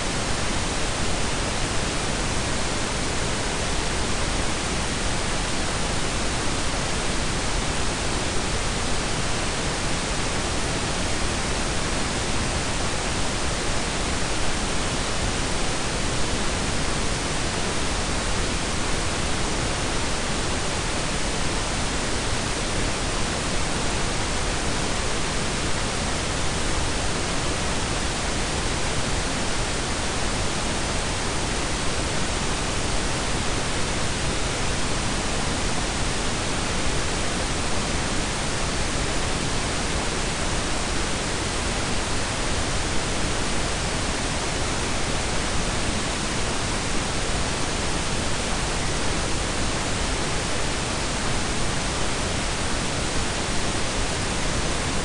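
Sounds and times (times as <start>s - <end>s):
steady noise hiss with deep rumble: 0.0s - 55.0s.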